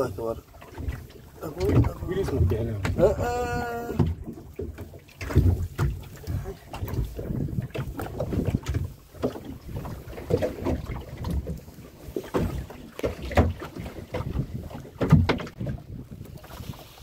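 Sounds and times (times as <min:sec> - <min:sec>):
boat knocks and thumps: 0:00.0 - 0:17.0
wind buffeting the microphone: 0:00.7 - 0:17.0.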